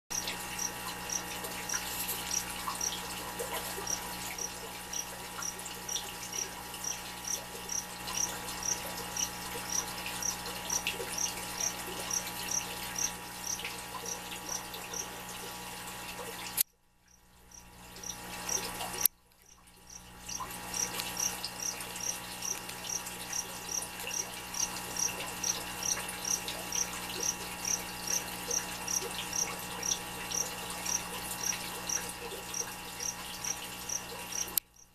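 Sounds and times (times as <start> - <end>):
aquarium hum: 0.1 - 34.9
running water: 0.1 - 34.9.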